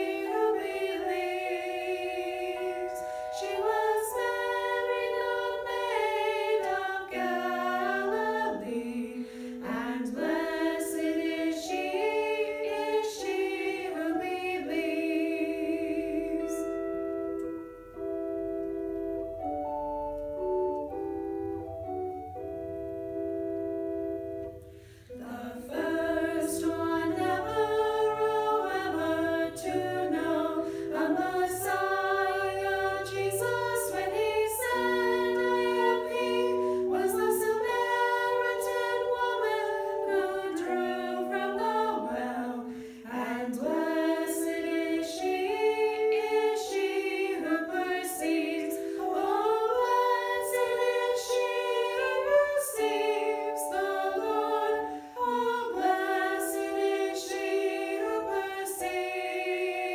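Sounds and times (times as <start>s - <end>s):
women singing in harmony: 0.0s - 17.0s, 24.8s - 59.9s.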